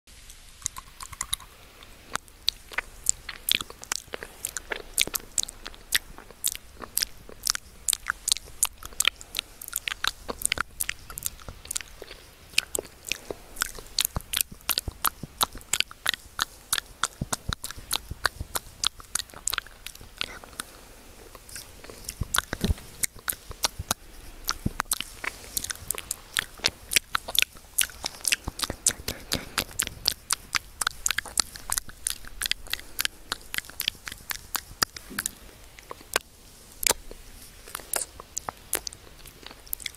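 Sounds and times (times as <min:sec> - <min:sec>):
candy crunching and chewing: 0:00.3 - 0:39.9.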